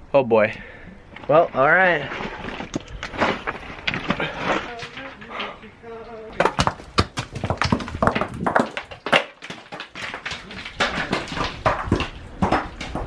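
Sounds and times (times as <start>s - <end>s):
gravel scraping under boots: 1.0s - 13.0s
rock clattering down slope: 1.2s - 13.0s.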